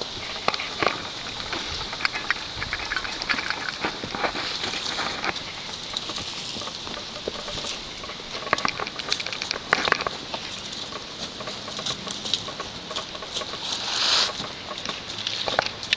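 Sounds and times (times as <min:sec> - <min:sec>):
leaves and twigs rustling: 0:00.0 - 0:15.9
twigs snapping: 0:00.0 - 0:15.9.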